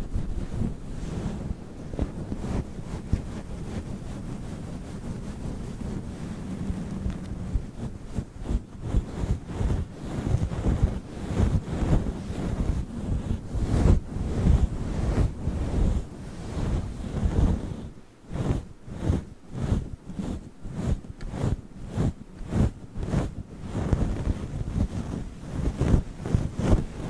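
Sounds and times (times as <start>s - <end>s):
furry microphone cover rubbing: 0.0s - 27.0s.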